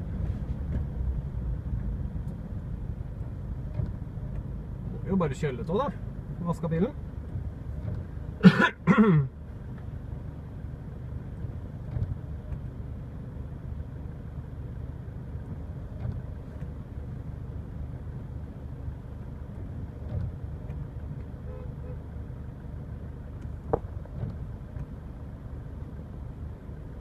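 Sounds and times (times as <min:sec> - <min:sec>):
car engine rumble: 0:00.0 - 0:27.0.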